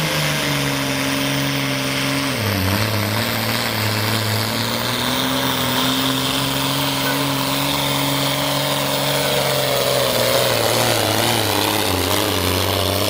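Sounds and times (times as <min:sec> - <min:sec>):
high whine: 0:00.0 - 0:13.0
tractor engine running hard: 0:00.0 - 0:13.0.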